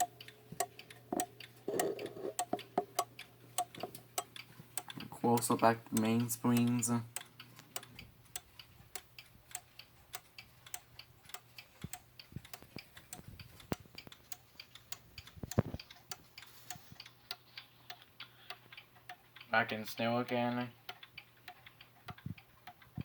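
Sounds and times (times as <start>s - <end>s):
clock ticking: 0.0s - 23.0s.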